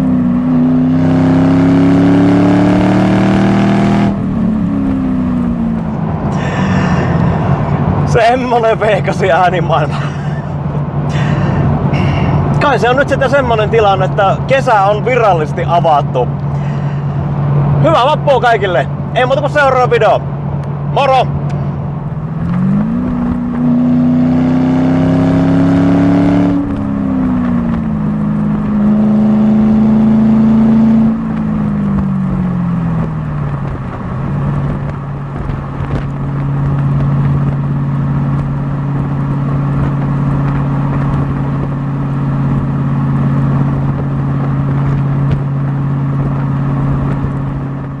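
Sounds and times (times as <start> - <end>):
car engine revving and idling: 0.0 - 18.2, 18.8 - 48.0.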